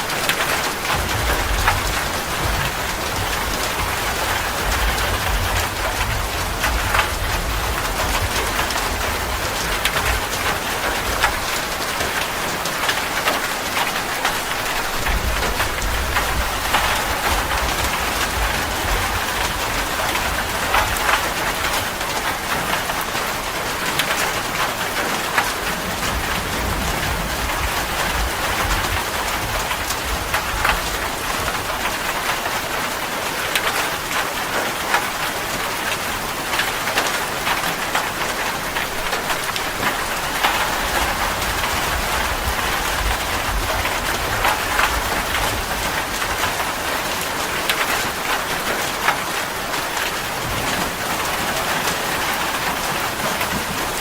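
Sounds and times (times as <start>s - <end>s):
heavy rain hissing and pattering: 0.0s - 54.0s.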